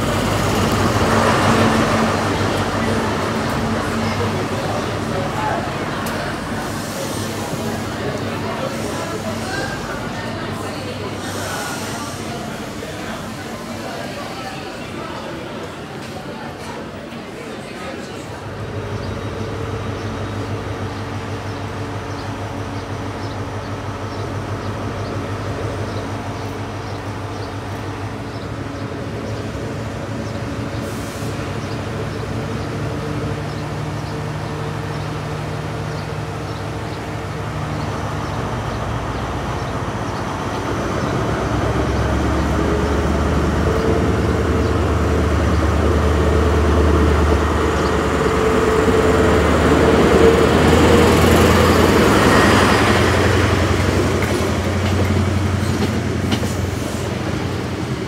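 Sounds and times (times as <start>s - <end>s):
diesel train engine: 0.0s - 58.0s.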